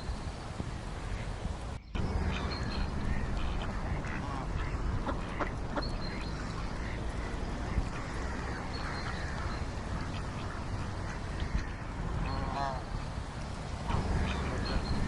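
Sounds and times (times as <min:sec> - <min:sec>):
steady background noise: 0:00.0 - 0:15.0
ducks quacking: 0:02.0 - 0:13.1, 0:13.8 - 0:15.0.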